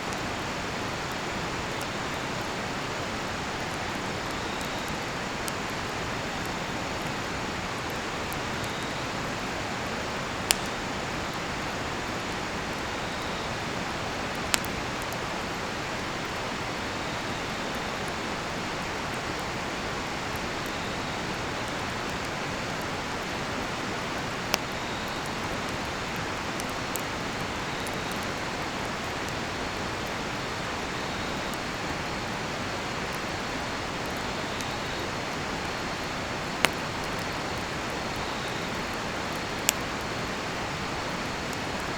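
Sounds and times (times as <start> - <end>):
campfire popping: 0.0 - 41.9
faint crickets chirping: 0.0 - 41.9.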